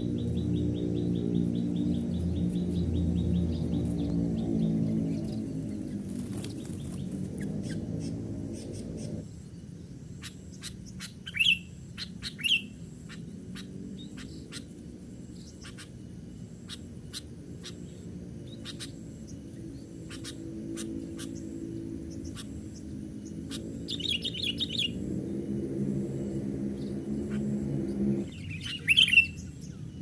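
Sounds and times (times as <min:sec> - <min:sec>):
birds chirping: 0:00.0 - 0:30.0
low drone: 0:00.0 - 0:30.0.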